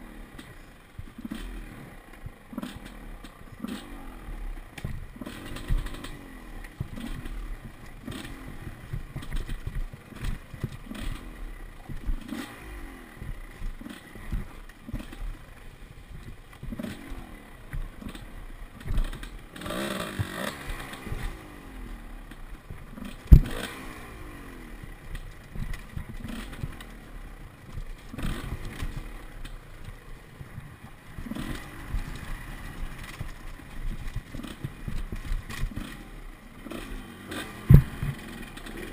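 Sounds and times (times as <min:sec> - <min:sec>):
dirt bike engine revving: 0:00.0 - 0:38.9
bike clattering over rough ground: 0:00.3 - 0:38.9.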